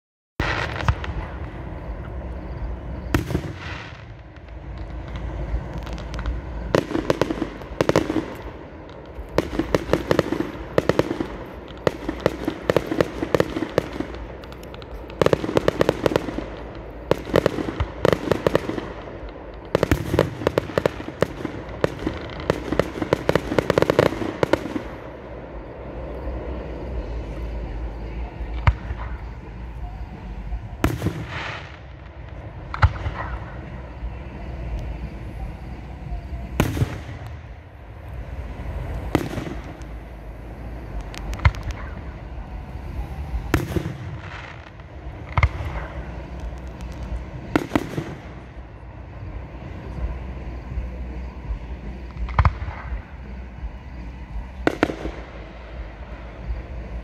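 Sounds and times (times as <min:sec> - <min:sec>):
fireworks popping and crackling: 0:00.4 - 0:57.0.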